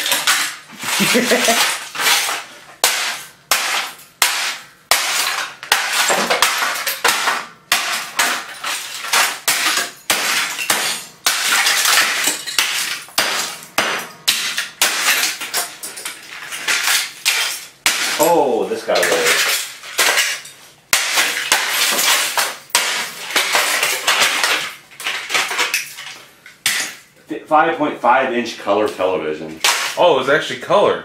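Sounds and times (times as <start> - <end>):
hammer smashing plastic: 0.0 - 27.0, 29.6 - 30.1
plastic and metal fragments clattering: 0.0 - 27.1.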